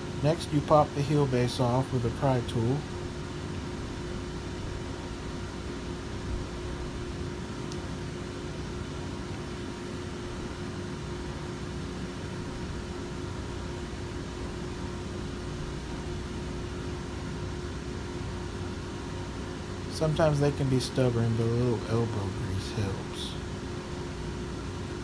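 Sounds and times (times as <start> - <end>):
machine humming with hiss: 0.0 - 25.0.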